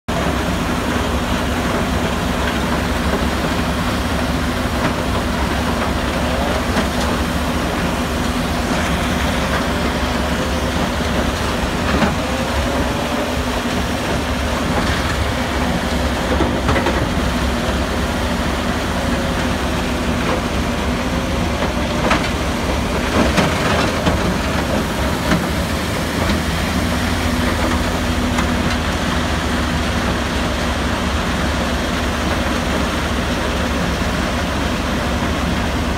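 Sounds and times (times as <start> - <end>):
engine drone: 0.1 - 35.9.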